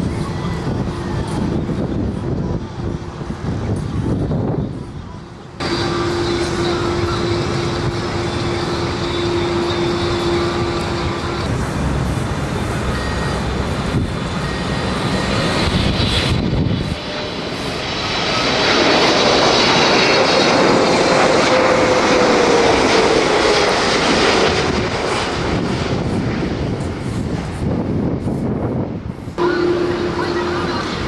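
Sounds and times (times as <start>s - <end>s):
jet airliner passing: 0.0s - 31.0s.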